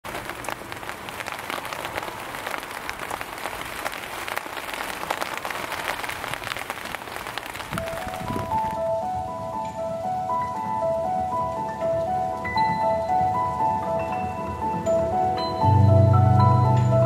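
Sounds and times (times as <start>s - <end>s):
rain drops splashing on water: 0.0s - 17.0s.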